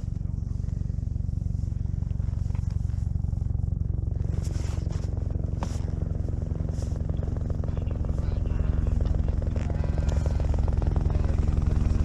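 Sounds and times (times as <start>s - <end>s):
helicopter rotor beating: 0.0s - 12.0s
low engine hum: 0.0s - 12.0s.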